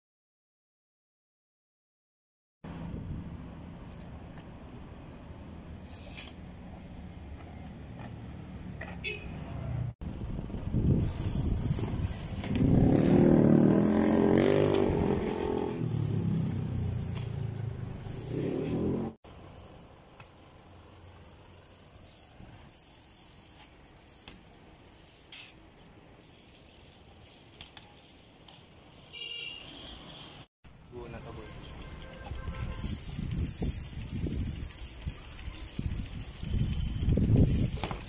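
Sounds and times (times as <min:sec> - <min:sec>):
quiet street background: 0:02.6 - 0:38.0.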